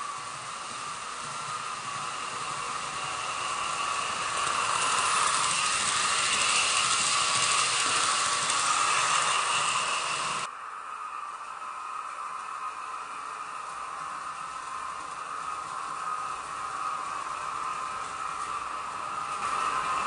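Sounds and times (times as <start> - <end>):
model train whirring on track: 0.0 - 20.0.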